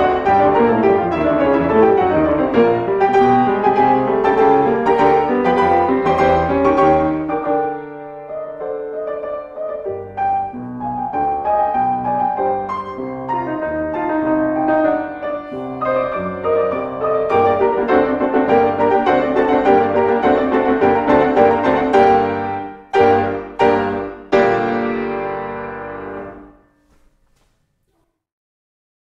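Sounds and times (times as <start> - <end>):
solo classical piano: 0.0 - 28.2.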